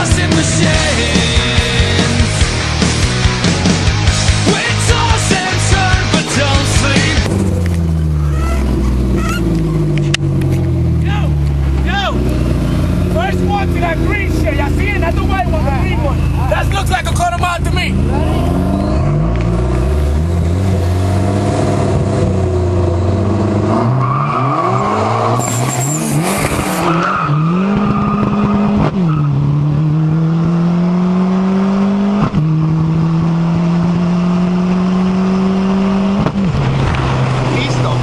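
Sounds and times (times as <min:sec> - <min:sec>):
car engine accelerating at full throttle: 0:00.0 - 0:38.0.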